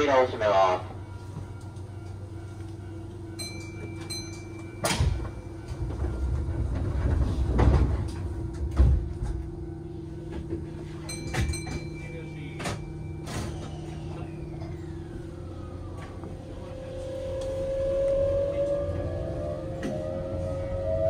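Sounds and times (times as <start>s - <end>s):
train equipment low hum: 0.0s - 21.0s.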